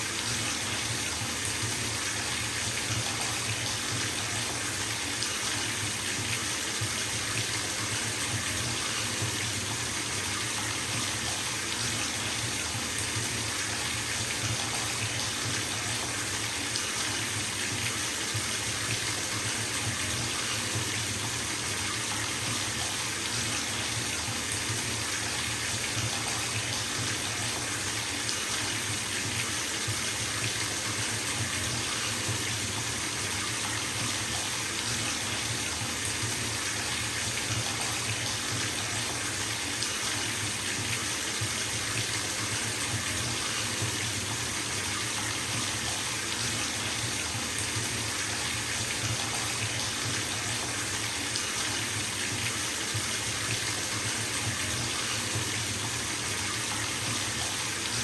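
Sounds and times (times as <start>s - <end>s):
tap water filling bathtub: 0.0s - 58.0s.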